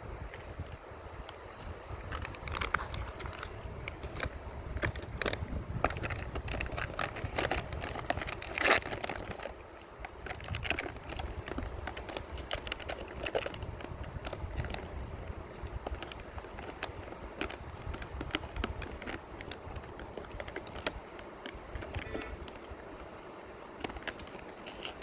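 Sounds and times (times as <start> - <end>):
wind on microphone: 0.0 - 22.9.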